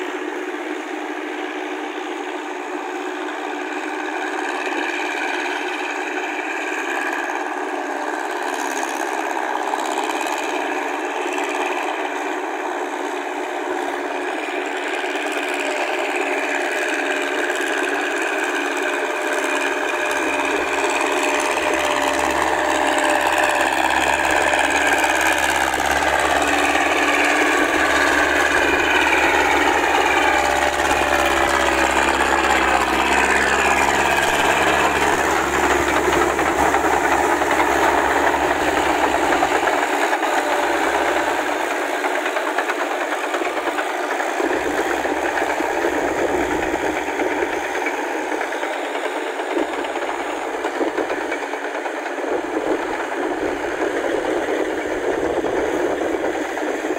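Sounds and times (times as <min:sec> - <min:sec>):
tractor engine running under load: 0:00.0 - 0:56.9.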